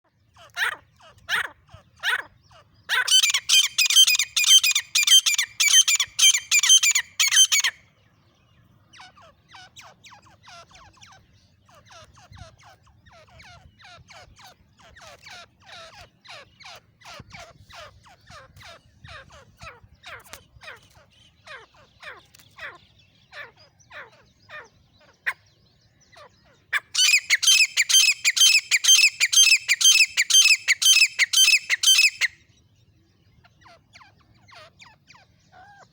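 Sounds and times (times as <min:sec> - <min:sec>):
francolins calling: 0:00.2 - 0:08.0, 0:08.7 - 0:32.6, 0:33.4 - 0:35.9.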